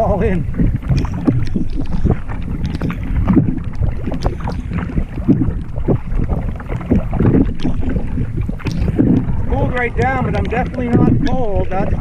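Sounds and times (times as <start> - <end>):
paddle strokes: 0.0 - 12.0
water splashing against hull: 0.0 - 12.0
wind buffeting microphone: 0.0 - 12.0.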